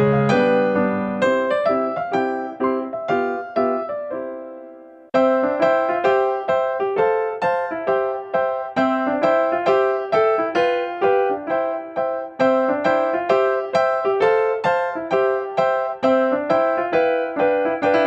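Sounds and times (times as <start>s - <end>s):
keyboard melody: 0.0s - 18.0s.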